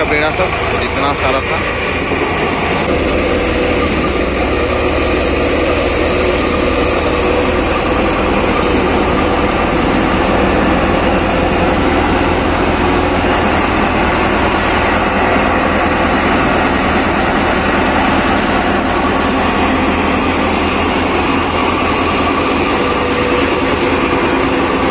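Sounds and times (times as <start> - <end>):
thresher drum and fans droning: 0.0 - 24.9
tractor engine running: 0.0 - 24.9.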